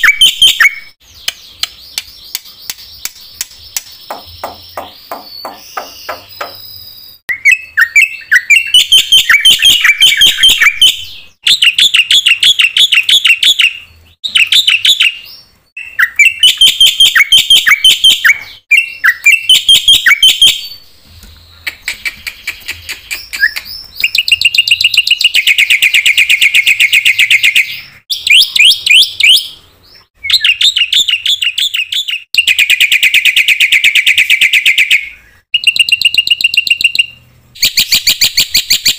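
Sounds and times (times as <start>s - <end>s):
bird singing chattering trills: 0.0s - 38.9s.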